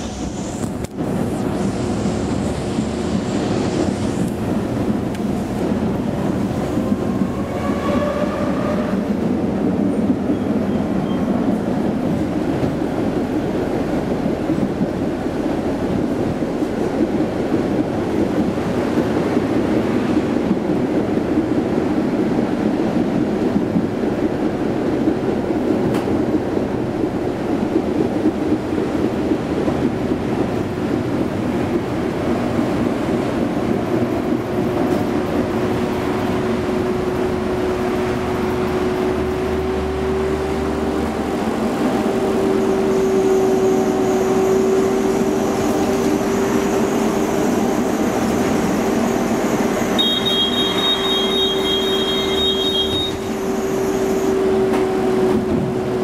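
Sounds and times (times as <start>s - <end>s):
tram wheels rumbling: 0.0s - 56.0s.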